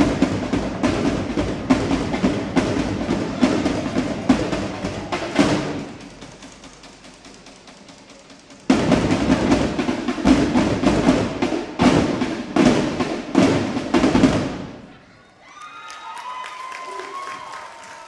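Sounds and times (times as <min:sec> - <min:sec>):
drum line playing: 0:00.0 - 0:14.9.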